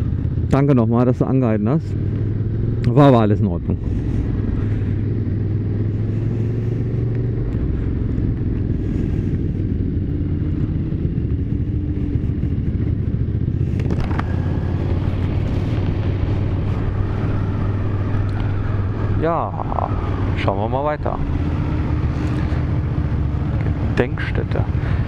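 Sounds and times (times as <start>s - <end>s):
motorcycle engine cruising: 0.0s - 25.0s
road noise: 0.0s - 25.0s.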